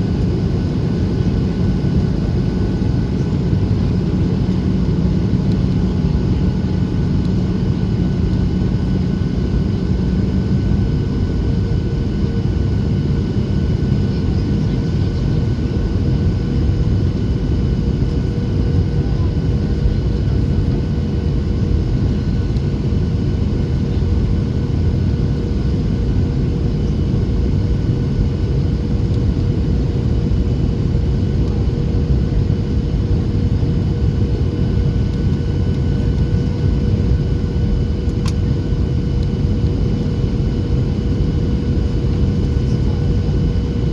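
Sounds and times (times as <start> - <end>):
faint steady engine tones: 0.0 - 43.9
jet engines and airflow rumble: 0.0 - 43.9.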